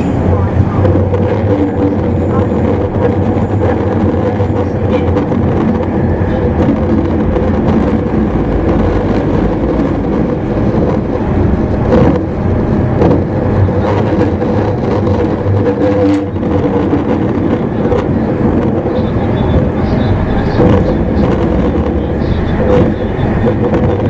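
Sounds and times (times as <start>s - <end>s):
constant drive hum: 0.0s - 24.0s
train wheels rumbling on rail: 0.0s - 24.0s.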